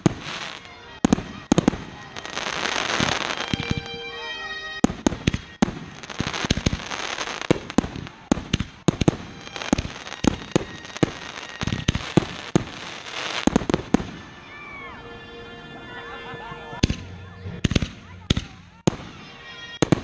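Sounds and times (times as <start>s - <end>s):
fireworks bursting: 0.0s - 14.8s, 16.3s - 20.0s.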